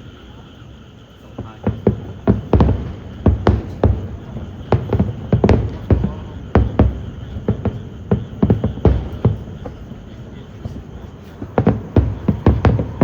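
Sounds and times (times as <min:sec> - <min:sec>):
fireworks bangs and booms: 0:00.0 - 0:13.0.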